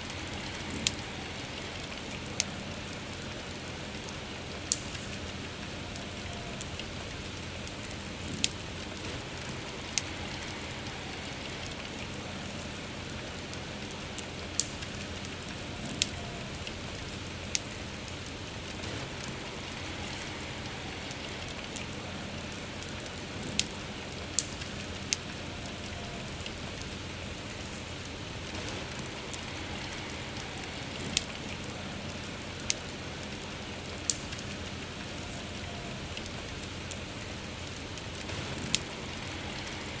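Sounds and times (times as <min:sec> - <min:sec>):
campfire crackling and popping: 0:00.0 - 0:40.0
soft rain hiss: 0:00.0 - 0:40.0.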